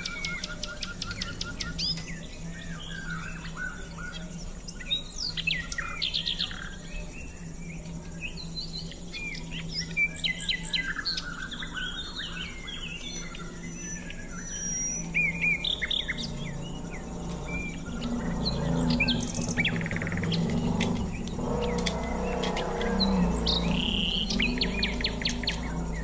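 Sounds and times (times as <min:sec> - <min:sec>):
faint low hum: 0:00.0 - 0:26.0
small birds chirping: 0:00.0 - 0:26.0.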